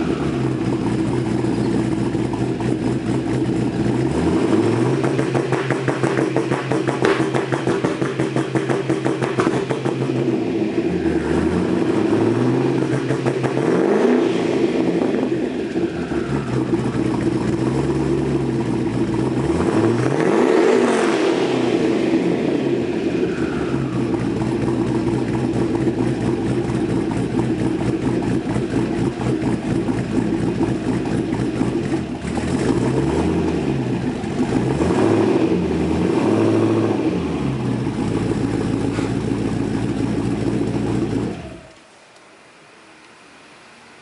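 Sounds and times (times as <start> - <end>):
car exhaust engine running: 0.0 - 41.8.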